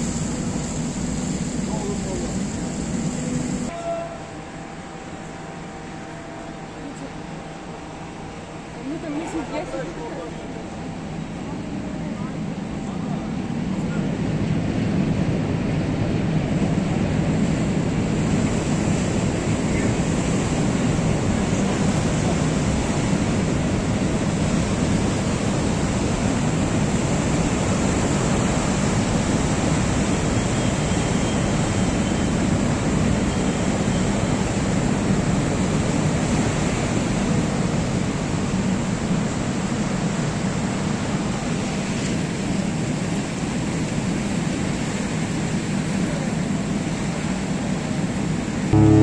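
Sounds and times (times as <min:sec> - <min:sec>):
ship engines rumbling: 0:00.0 - 0:49.0.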